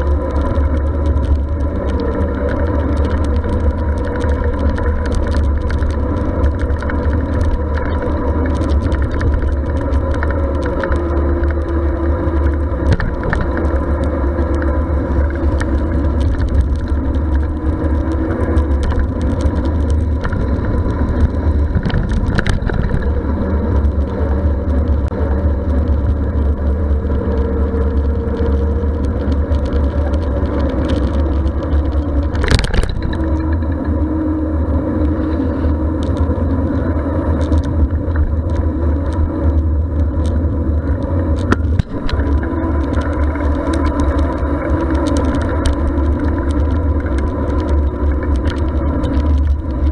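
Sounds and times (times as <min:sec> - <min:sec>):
rolling road noise: 0:00.0 - 0:49.9
wind rumble on camera: 0:00.0 - 0:49.9.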